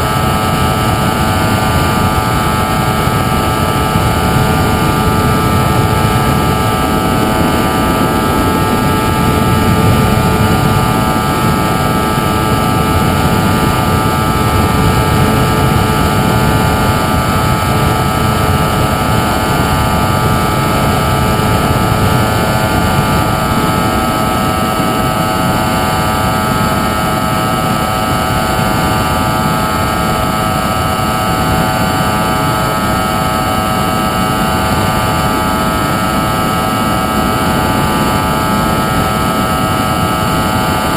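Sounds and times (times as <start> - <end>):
motor hum of fixed tones: 0.0 - 40.9
rushing air noise: 0.0 - 40.9.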